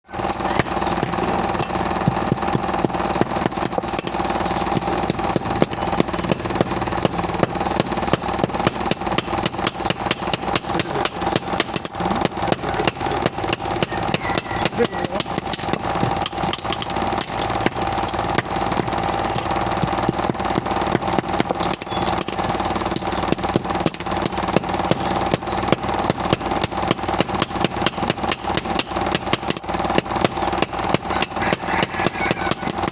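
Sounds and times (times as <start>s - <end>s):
steady hum: 0.1s - 32.9s
hammer striking metal: 0.3s - 32.9s.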